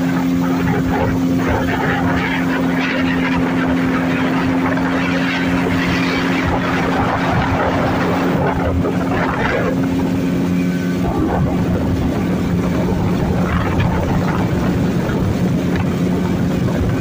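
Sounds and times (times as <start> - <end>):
boat engine humming: 0.0 - 17.0
water rushing: 0.0 - 17.0
wind: 0.0 - 17.0.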